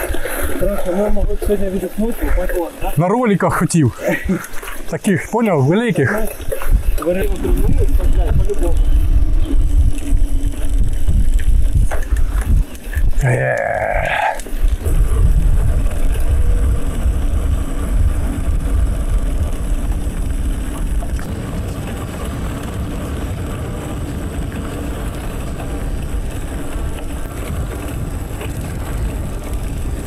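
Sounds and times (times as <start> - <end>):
bicycle tyre noise: 0.0 - 30.0
wind rumbling on microphone: 0.0 - 30.0.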